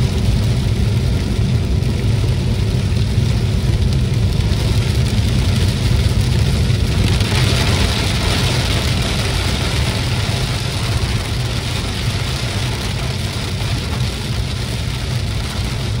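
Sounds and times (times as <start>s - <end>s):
engine and road rumble: 0.0s - 16.0s
hiss of rain and tyre spray: 0.0s - 16.0s.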